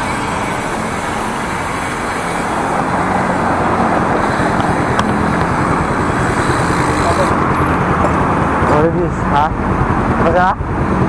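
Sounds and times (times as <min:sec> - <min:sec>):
road noise from bicycle: 0:00.0 - 0:11.0
traffic noise: 0:00.0 - 0:11.0.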